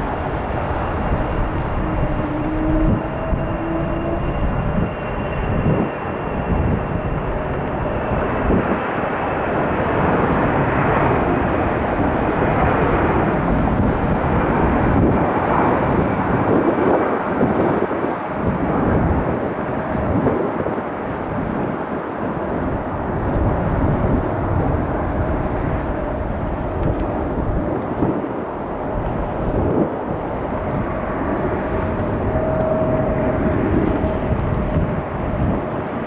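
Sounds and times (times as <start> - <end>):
jet engines at takeoff power: 0.0 - 36.0
wind buffeting microphone: 0.0 - 36.0.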